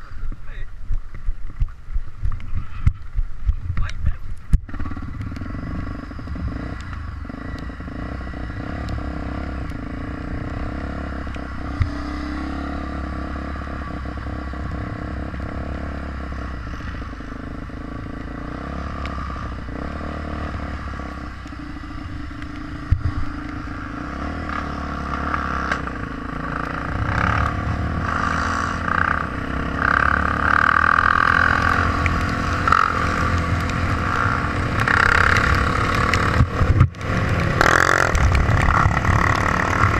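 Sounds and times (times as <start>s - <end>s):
dirt bike engine running: 0.9s - 39.9s.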